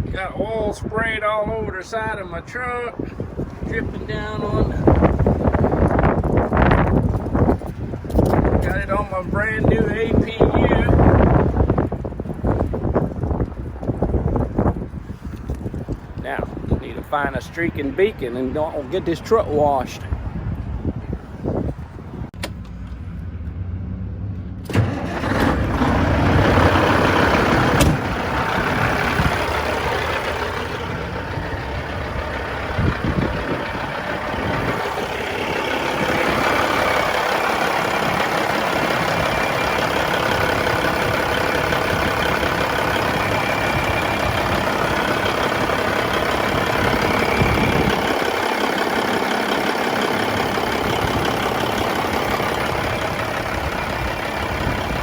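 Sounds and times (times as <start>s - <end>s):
truck diesel engine running: 0.0s - 23.3s, 24.6s - 55.0s.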